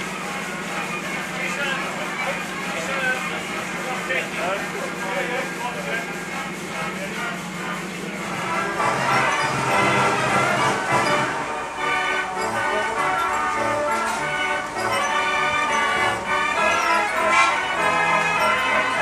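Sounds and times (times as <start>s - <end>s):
fairground organ music: 0.0s - 19.0s.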